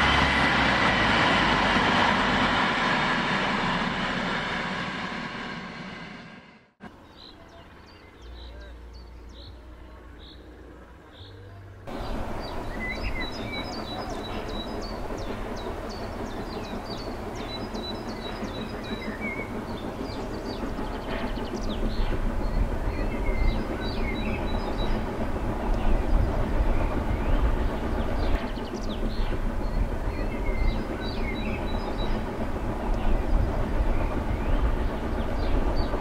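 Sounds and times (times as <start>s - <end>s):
distant steam train rumble: 0.0s - 36.0s
songbirds chirping: 6.8s - 36.0s.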